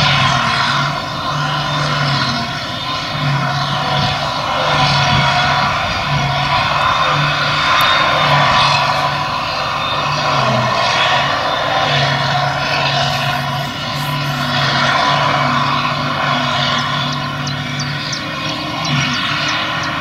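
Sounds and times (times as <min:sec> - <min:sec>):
forage harvester engine hum: 0:00.0 - 0:20.0.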